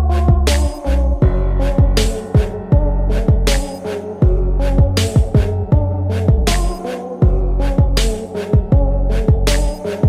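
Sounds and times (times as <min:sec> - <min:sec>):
sliding deep bass notes: 0:00.0 - 0:09.7
music with percussive hits: 0:00.2 - 0:10.0.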